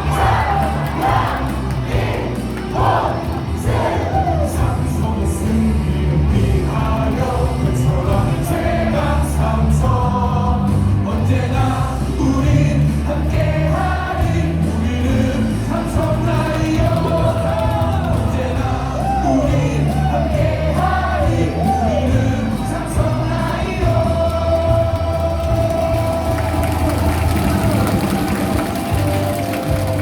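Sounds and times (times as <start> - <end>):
crowd singing along: 0.0 - 30.0
music over loudspeakers: 0.0 - 30.0.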